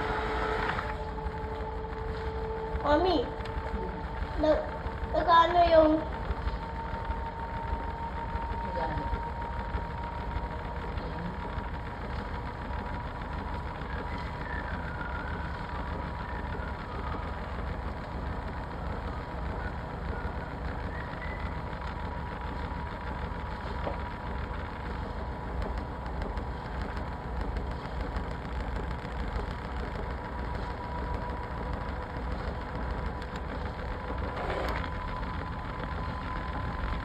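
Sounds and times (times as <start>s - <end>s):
thin steady whine: 0.0s - 37.0s
washing machine humming: 0.0s - 37.0s.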